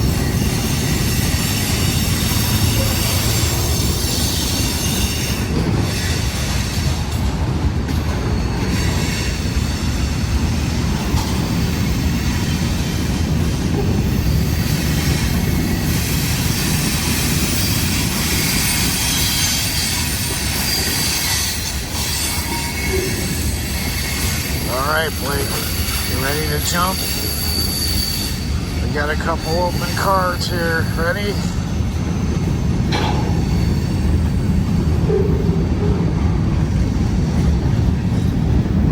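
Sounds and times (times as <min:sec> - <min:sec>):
steel wheels rumbling on rail: 0:00.0 - 0:38.9.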